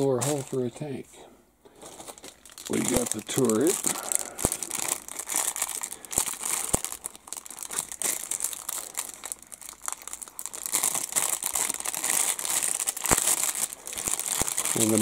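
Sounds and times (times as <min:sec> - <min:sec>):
plastic bag crinkling: 0:00.0 - 0:00.8, 0:01.6 - 0:15.0.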